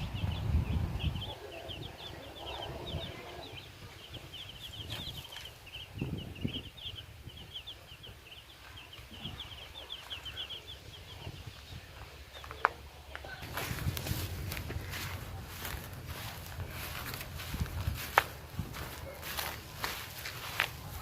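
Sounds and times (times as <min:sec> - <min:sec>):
small birds peeping: 0:00.0 - 0:21.0.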